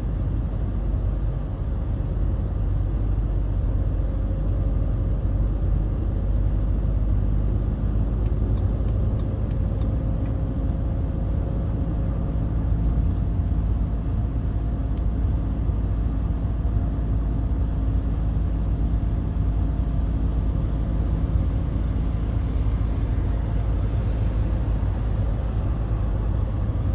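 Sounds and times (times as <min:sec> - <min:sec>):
diesel engine drone inside car: 0:00.0 - 0:26.9.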